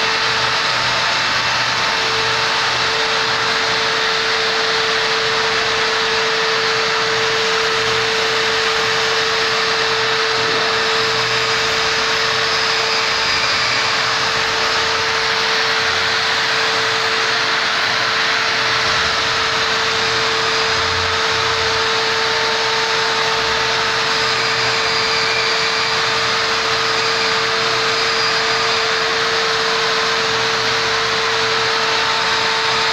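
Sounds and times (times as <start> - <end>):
drywall sander motor whine: 0.0 - 32.9.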